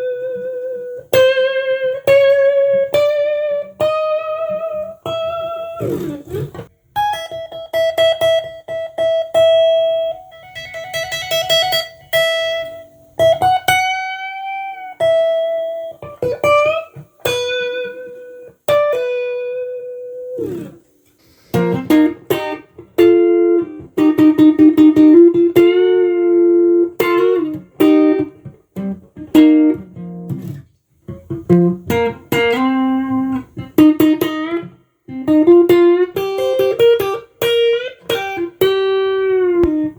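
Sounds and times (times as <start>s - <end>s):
electric guitar lead melody: 0.0s - 39.9s.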